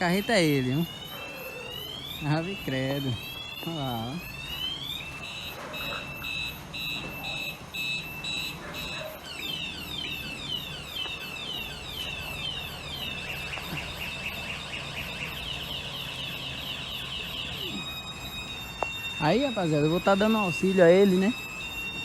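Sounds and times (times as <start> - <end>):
electronic alarm siren: 0.0 - 22.0.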